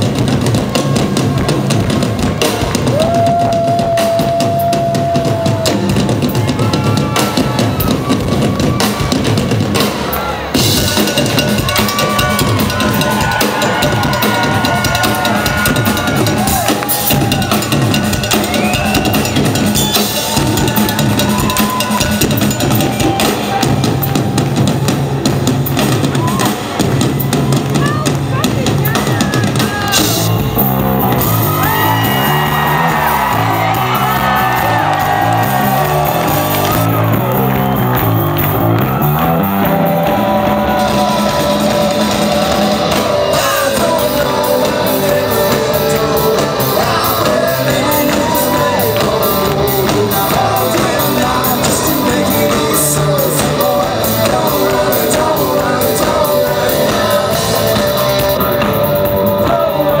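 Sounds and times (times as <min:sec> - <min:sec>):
crowd shouting and whooping: 0:00.0 - 1:00.0
live rock band playing: 0:00.0 - 1:00.0.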